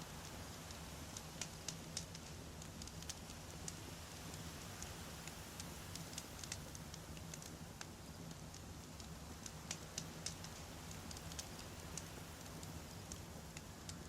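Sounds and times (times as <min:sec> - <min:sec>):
campfire crackling and popping: 0:00.2 - 0:14.0
low rumble of flames: 0:00.2 - 0:14.0.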